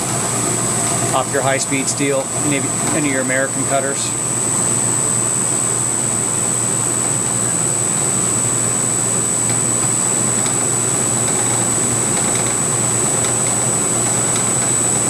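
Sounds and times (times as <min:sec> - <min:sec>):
high-pitched whine: 0:00.0 - 0:15.0
milling machine running: 0:00.0 - 0:15.0.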